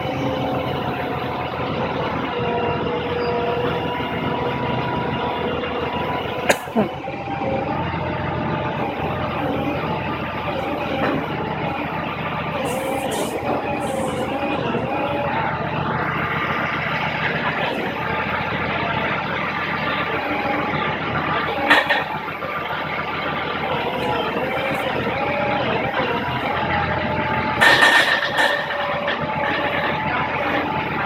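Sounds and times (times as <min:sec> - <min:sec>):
heavy vehicle engine running: 0:00.0 - 0:31.0.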